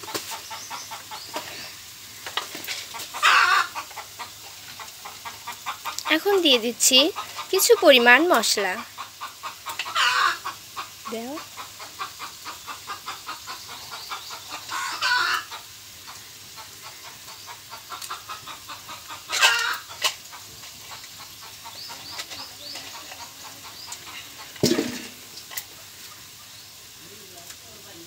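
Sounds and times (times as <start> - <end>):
chickens clucking: 0.0 - 27.1.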